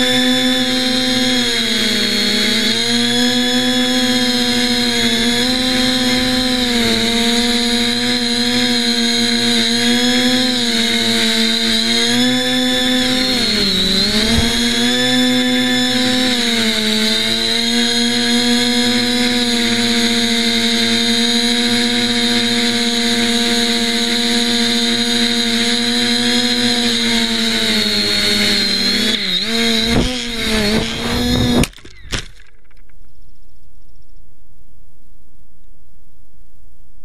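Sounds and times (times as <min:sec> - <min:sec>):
model plane motor whine: 0:00.0 - 0:33.0.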